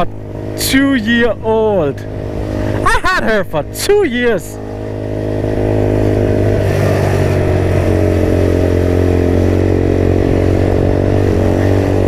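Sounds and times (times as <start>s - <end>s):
moped engine running: 0.0s - 12.0s.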